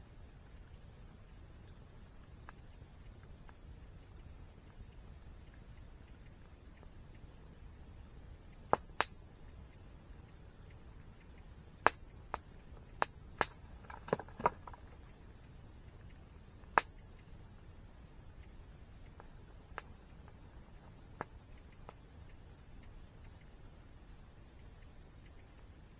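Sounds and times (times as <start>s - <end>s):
faint high-pitched hiss: 0.0s - 25.9s
low background rumble: 0.0s - 25.9s
campfire wood crackling and popping: 0.7s - 25.9s.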